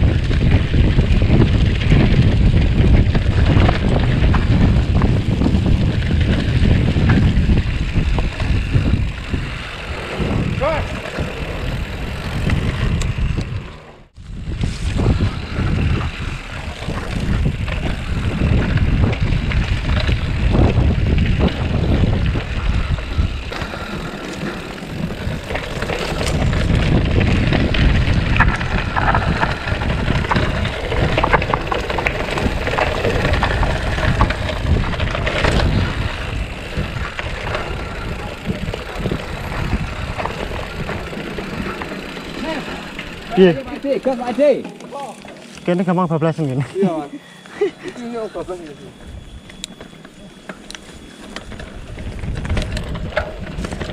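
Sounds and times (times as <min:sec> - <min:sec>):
bike rattling and knocking: 0:00.0 - 0:46.1, 0:49.5 - 0:53.9
wind and tyre noise: 0:00.0 - 0:53.9.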